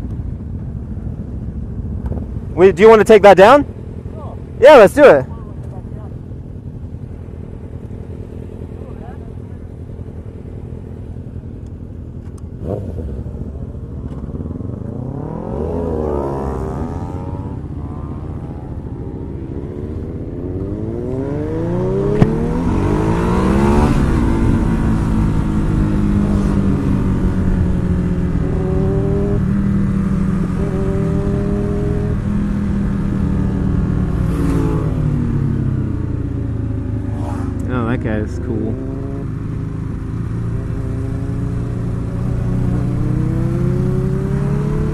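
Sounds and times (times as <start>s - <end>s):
motorcycle engine accelerating: 5.4s - 44.9s.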